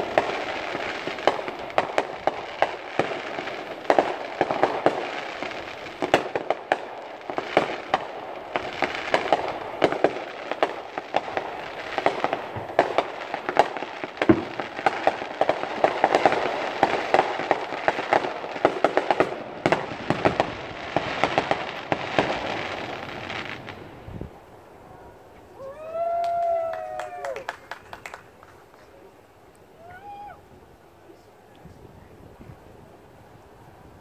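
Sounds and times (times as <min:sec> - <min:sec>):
fireworks popping and crackling: 0:00.0 - 0:24.7, 0:25.3 - 0:30.4.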